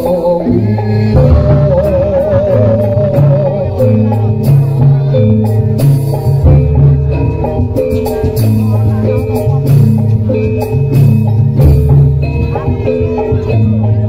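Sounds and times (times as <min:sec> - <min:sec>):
low pulsing drum beat: 0:00.0 - 0:14.0
metallophones playing melody: 0:00.0 - 0:14.0.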